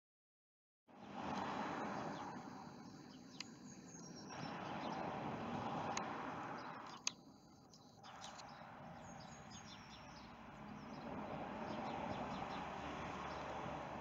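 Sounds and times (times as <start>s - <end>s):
small birds chirping: 1.0s - 14.0s.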